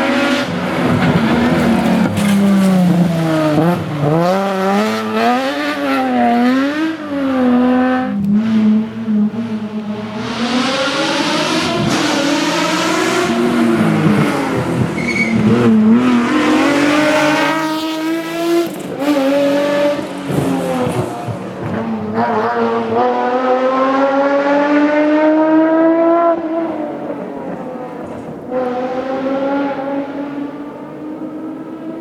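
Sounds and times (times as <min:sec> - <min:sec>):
car engine at full throttle: 0:00.0 - 0:32.0.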